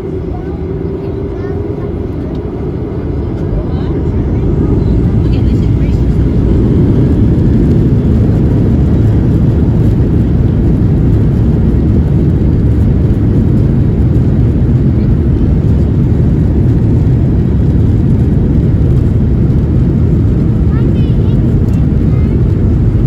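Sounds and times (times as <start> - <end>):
airflow: 0.0 - 23.0
jet engines rumbling: 0.0 - 23.0.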